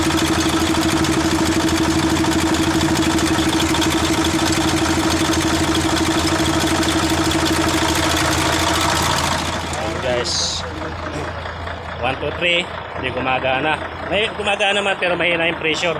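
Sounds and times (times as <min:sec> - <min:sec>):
diesel engine idling: 0:00.0 - 0:15.9
engine whine: 0:00.0 - 0:15.9.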